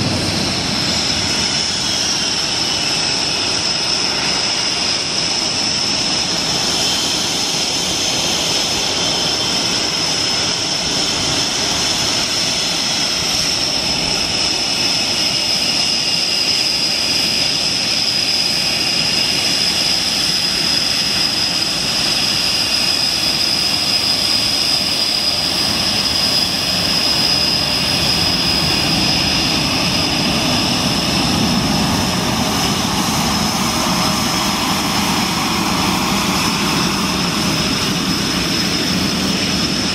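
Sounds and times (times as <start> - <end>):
jet engine whine: 0.0 - 39.9
low jet rumble: 0.0 - 39.9
rushing jet noise: 0.0 - 39.9.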